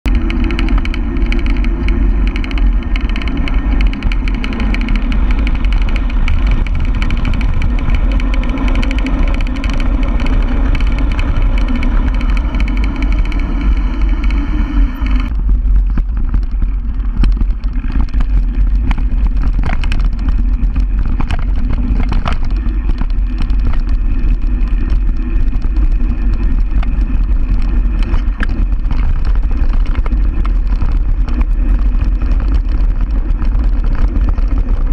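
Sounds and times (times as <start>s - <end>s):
bike rattling over bumps: 0.0s - 34.9s
wind buffeting camera: 0.0s - 34.9s.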